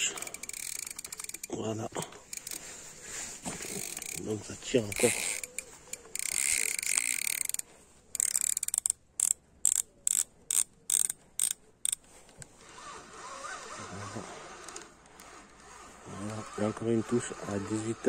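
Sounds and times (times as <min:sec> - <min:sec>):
fishing reel ratcheting: 0:00.0 - 0:01.6, 0:02.2 - 0:02.7, 0:03.6 - 0:12.0, 0:12.8 - 0:18.0.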